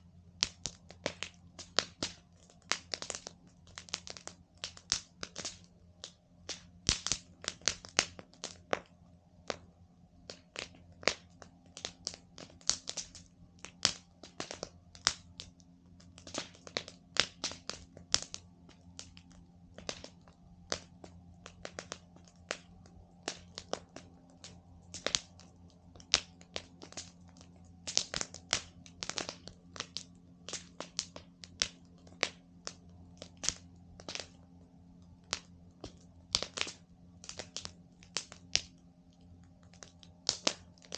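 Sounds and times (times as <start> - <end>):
campfire wood crackling: 0.0 - 40.9.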